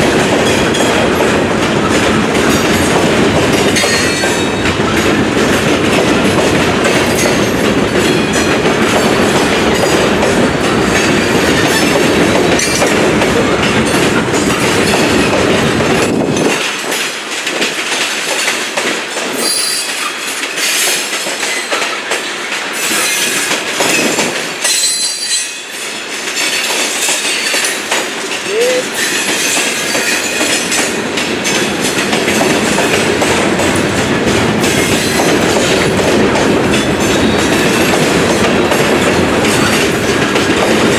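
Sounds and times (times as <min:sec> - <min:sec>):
low train rumble: 0:00.0 - 0:40.9
wheel-on-rail noise: 0:00.0 - 0:40.9.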